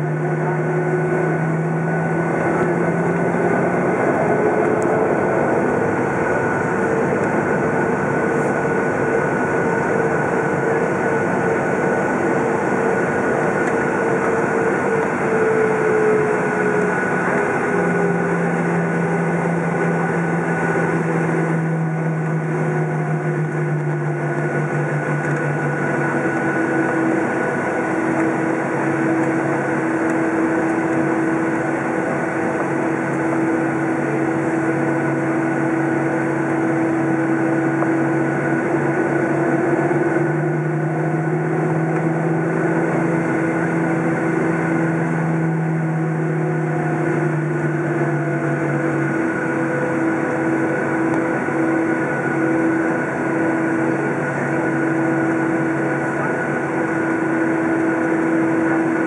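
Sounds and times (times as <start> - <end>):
jet engines humming: 0.0 - 59.0.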